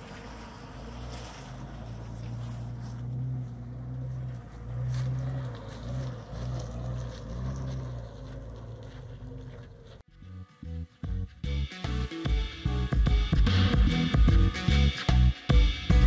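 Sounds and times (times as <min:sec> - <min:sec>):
engine droning uphill: 0:00.0 - 0:16.0.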